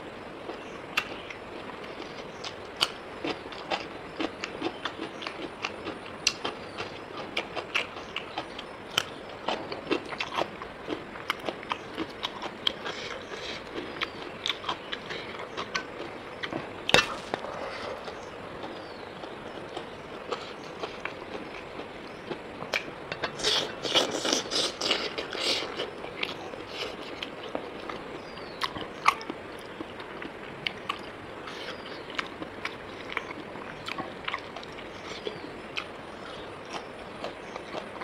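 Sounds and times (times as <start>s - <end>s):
person chewing and biting food: 2.1s - 38.0s.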